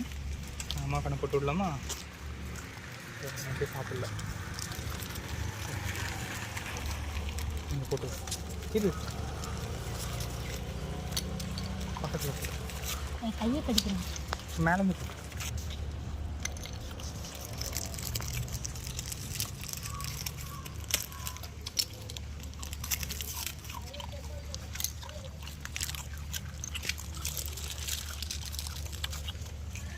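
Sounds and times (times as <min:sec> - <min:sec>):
puppies suckling: 0:01.8 - 0:29.9.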